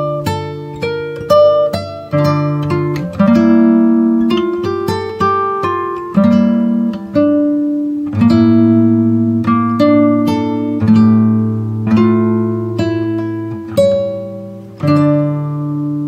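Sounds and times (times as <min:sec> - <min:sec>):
acoustic guitar ringtone music: 0:00.0 - 0:16.0.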